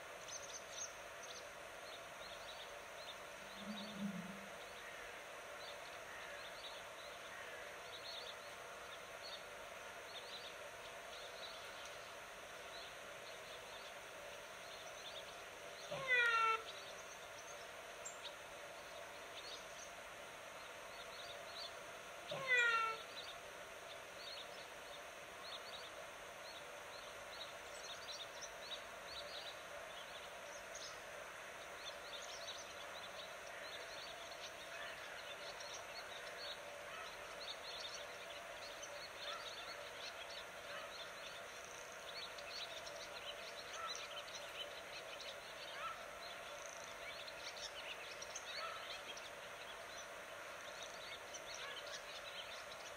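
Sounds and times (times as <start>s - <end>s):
outdoor background noise: 0.0s - 52.9s
small birds chirping: 0.1s - 52.9s.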